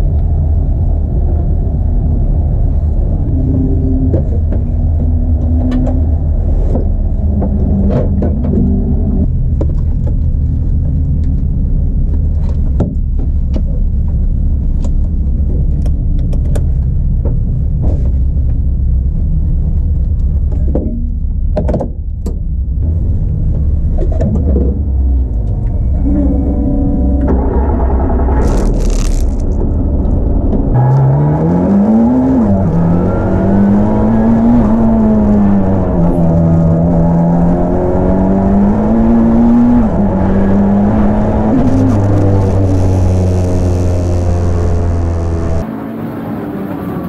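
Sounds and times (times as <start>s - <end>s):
low rumble in car cabin: 0.0s - 45.7s.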